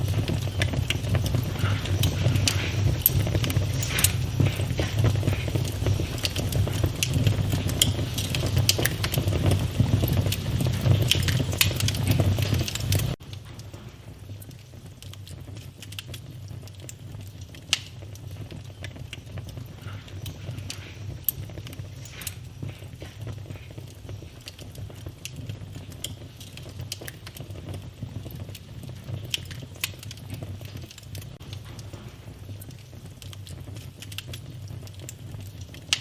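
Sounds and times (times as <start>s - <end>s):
low rumble of flames: 0.0s - 36.0s
wood fire crackling and popping: 0.0s - 36.0s.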